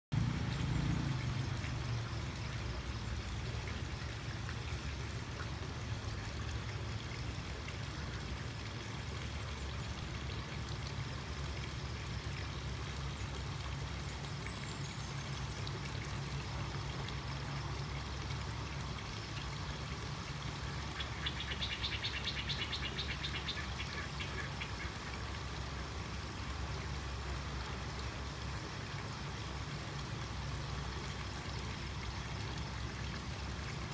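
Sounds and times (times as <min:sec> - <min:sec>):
trickle of running water: 0:00.2 - 0:33.9.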